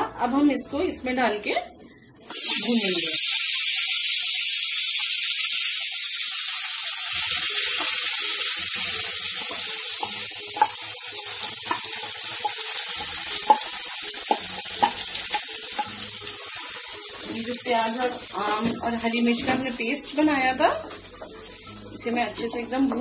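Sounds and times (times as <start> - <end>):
paste sizzling in hot oil: 2.3 - 23.0.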